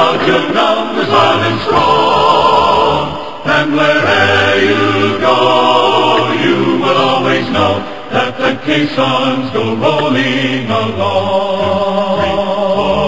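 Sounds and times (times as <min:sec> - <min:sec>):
choral music: 0:00.0 - 0:13.0.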